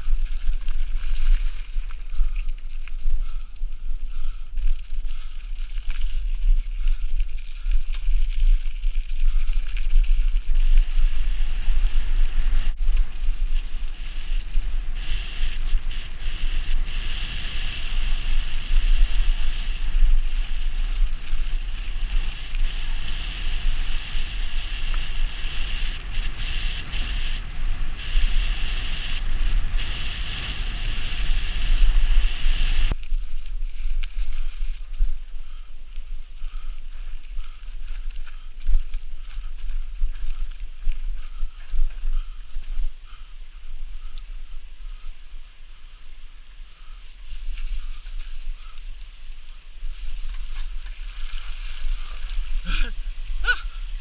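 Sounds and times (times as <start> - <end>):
bicycle chain and frame rattle: 0.0 - 54.0
wind rumble on microphone: 0.0 - 54.0.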